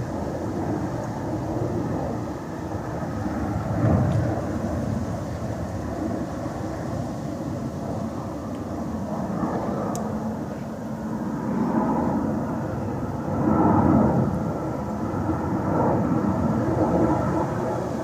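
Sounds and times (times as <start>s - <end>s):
airplane engine drone: 0.0s - 18.0s.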